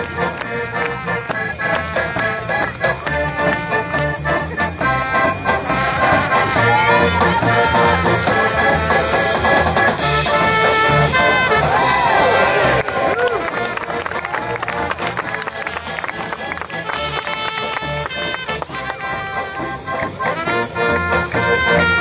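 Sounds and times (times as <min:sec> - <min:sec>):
circus band playing: 0:00.0 - 0:22.0.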